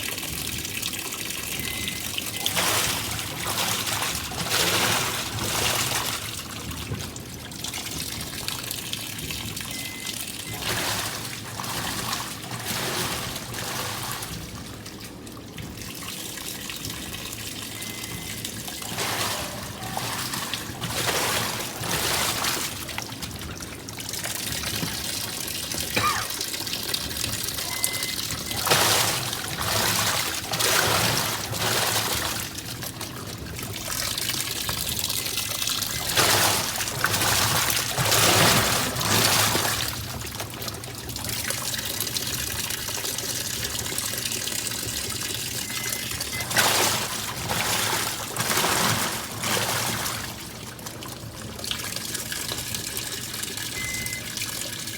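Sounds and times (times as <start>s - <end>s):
water running into washing machine: 0.0s - 54.9s.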